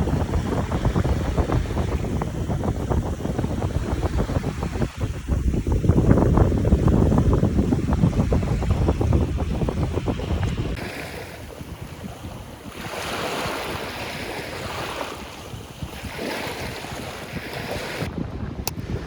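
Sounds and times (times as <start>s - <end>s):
sea waves washing ashore: 0.0s - 19.0s
wind buffeting microphone: 0.0s - 19.0s.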